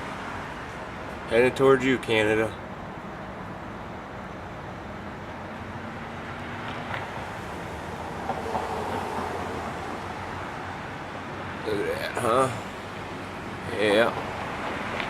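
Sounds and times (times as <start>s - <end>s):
passing vehicle rumble: 2.4s - 15.0s.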